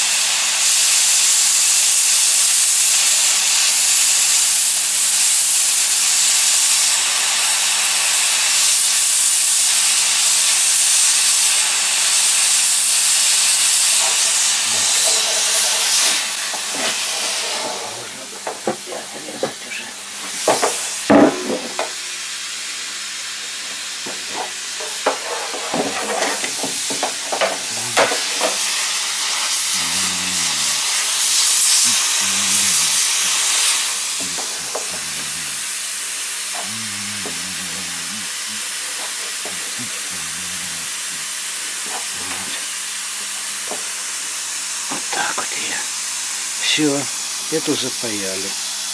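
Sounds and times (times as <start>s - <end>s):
hot-air welding gun hissing: 0.0s - 48.9s.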